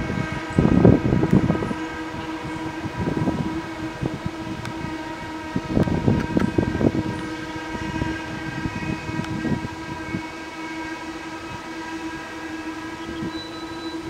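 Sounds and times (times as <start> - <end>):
steady whine: 0.0 - 14.0.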